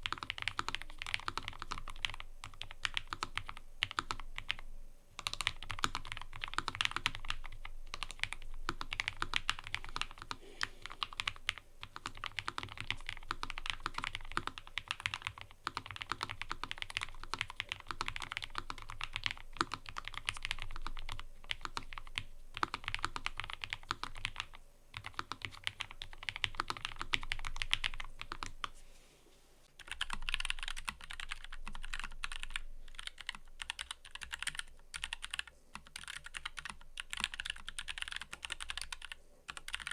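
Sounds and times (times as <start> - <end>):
mechanical keyboard typing: 0.0 - 4.6, 5.2 - 28.6, 29.8 - 39.9.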